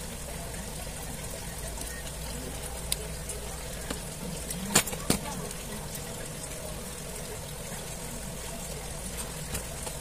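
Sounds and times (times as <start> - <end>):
background hiss and hum: 0.0 - 10.0.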